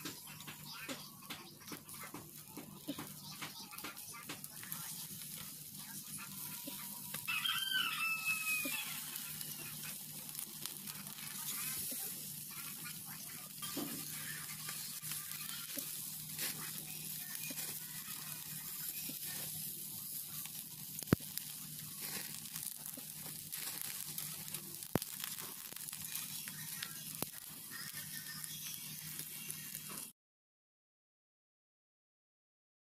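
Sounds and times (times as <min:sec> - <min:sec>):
fish sizzling on charcoal grill: 0:00.0 - 0:30.1.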